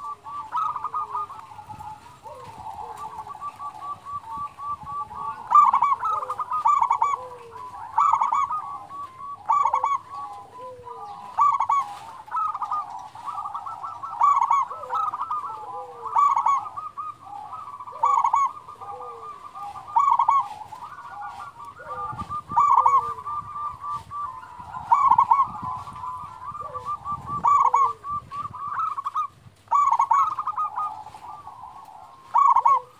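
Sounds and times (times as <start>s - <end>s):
dove cooing: 0.0s - 32.9s
rapid rolling bird notes: 0.0s - 32.9s.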